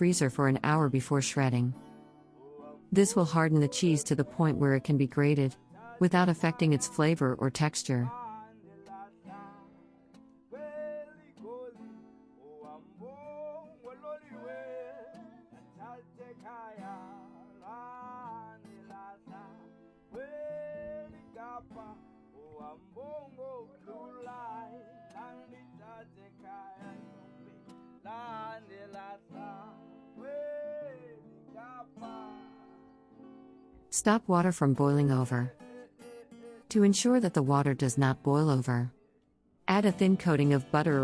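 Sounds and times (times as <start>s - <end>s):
strummed acoustic guitar: 0.0s - 38.8s, 39.7s - 41.0s.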